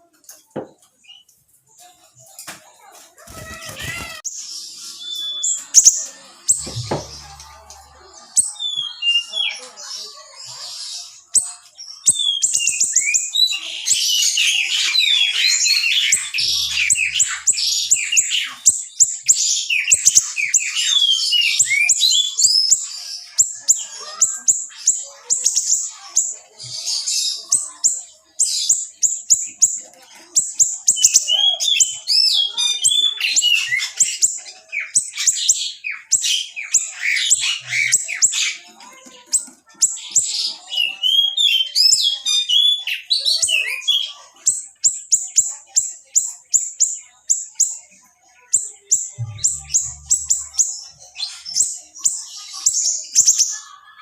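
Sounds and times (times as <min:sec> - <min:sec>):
songbird chirping and trilling: 0:00.0 - 0:54.0.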